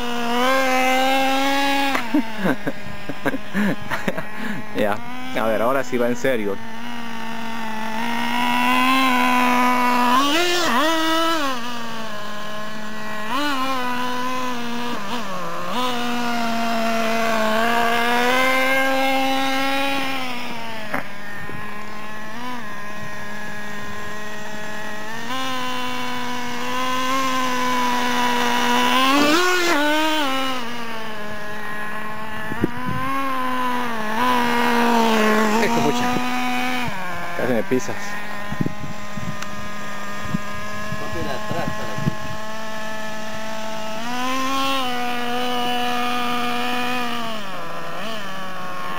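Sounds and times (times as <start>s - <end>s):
small nitro engine revving: 0.0s - 48.9s.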